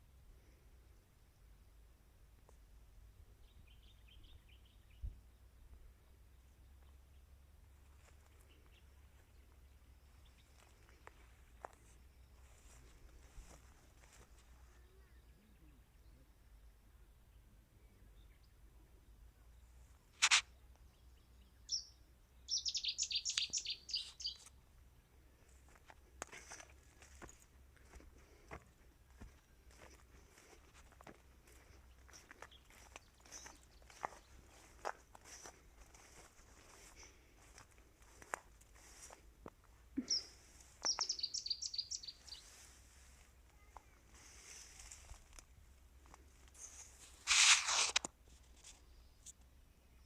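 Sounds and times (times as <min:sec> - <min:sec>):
songbird singing: 0:00.8 - 0:25.8, 0:26.8 - 0:47.0, 0:48.7 - 0:50.0.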